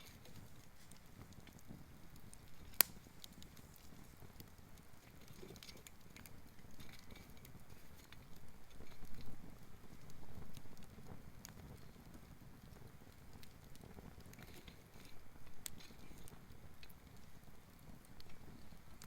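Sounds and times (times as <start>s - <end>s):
bonfire crackling and popping: 0.0s - 19.0s.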